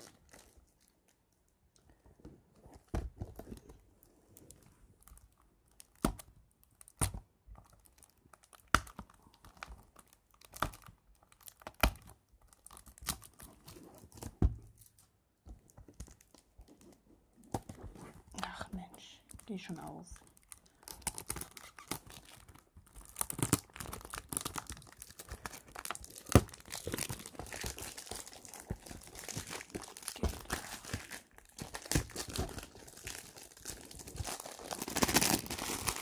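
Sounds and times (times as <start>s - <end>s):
shrink-wrap crinkling and tearing: 0.0s - 1.4s, 2.6s - 15.1s, 15.8s - 36.0s.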